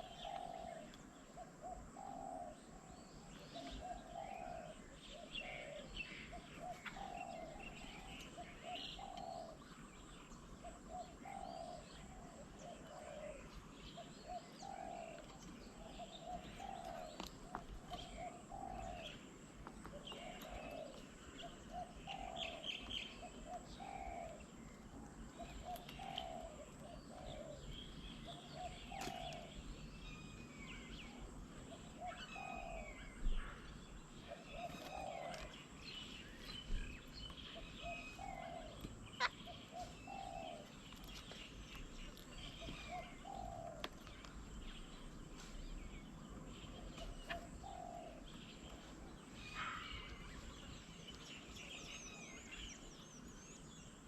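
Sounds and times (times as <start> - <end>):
dove cooing: 0.0 - 9.7, 10.6 - 29.7, 30.8 - 36.0, 36.7 - 44.9, 46.5 - 50.7
small birds chirping: 0.0 - 54.0.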